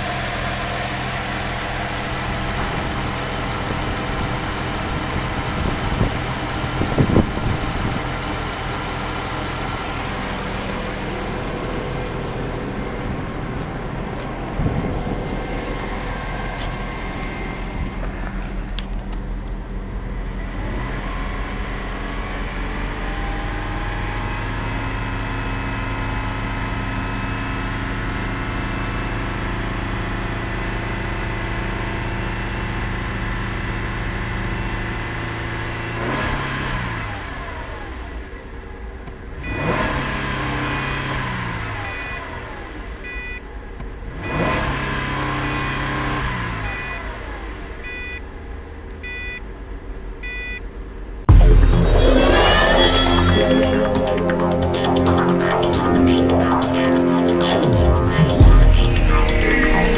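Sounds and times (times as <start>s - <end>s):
car engine running: 0.0s - 59.9s.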